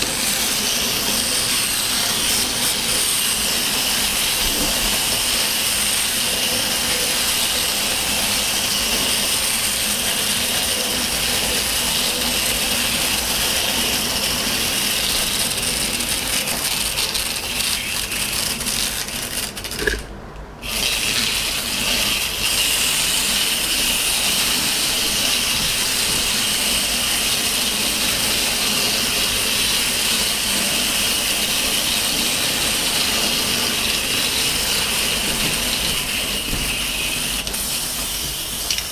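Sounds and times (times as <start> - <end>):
clockwork toy trains whirring: 0.0 - 20.0, 20.6 - 38.9.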